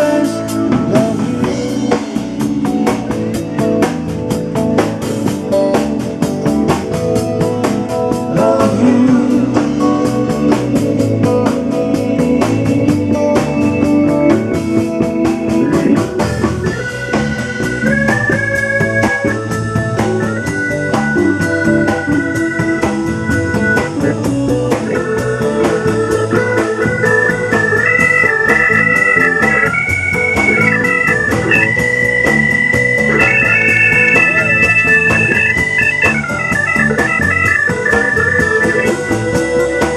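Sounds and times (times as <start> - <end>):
organ-like keyboard chords: 0.0 - 39.9.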